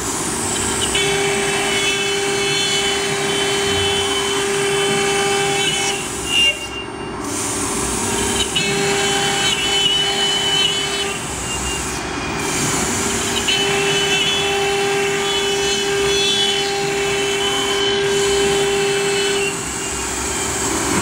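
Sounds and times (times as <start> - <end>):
hiss of router cutting: 0.0 - 21.0.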